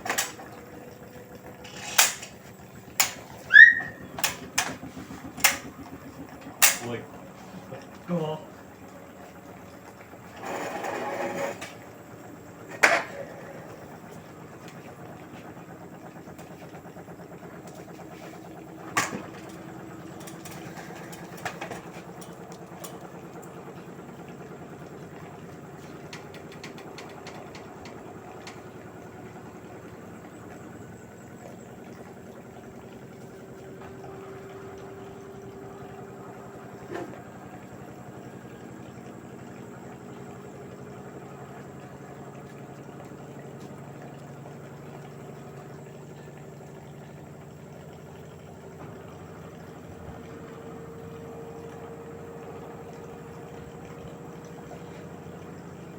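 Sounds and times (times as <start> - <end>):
washing machine motor hum: 0.0 - 55.9.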